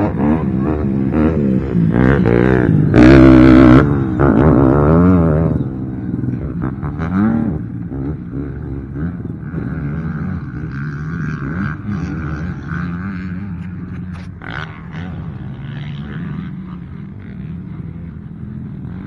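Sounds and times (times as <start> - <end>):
quad engines revving: 0.0 - 19.0.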